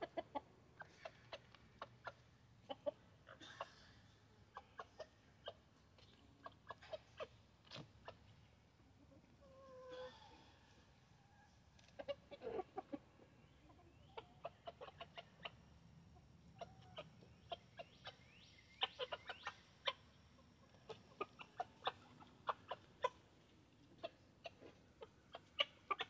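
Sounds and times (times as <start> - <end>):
chickens clucking quietly: 0.0 - 26.0.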